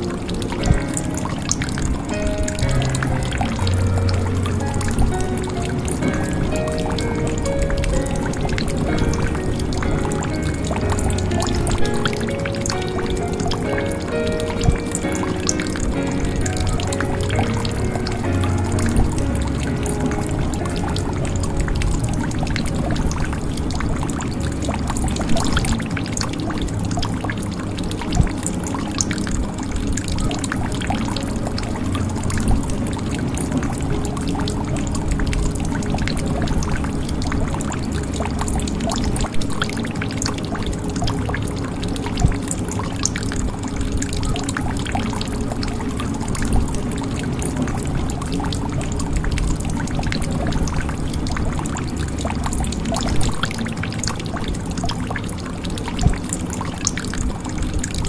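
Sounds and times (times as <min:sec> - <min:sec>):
water trickling into a jug: 0:00.0 - 0:58.0.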